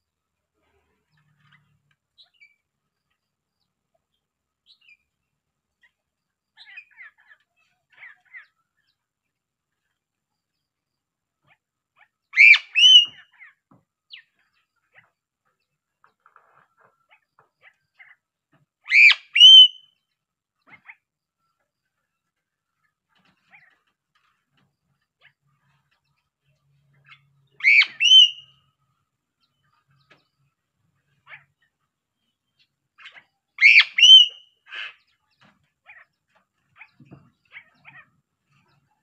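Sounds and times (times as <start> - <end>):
faint bird chirps: 0.5 - 39.0.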